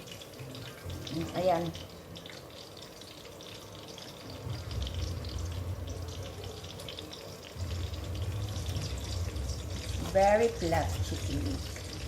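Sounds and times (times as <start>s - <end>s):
chicken wings sizzling in oil: 0.0s - 12.0s.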